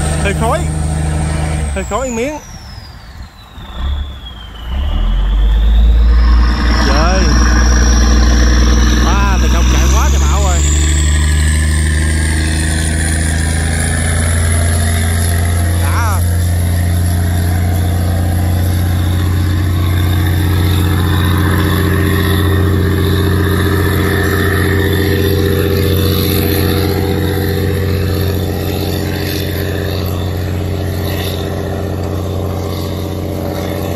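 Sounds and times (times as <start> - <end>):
boat diesel engine running: 0.0 - 33.9.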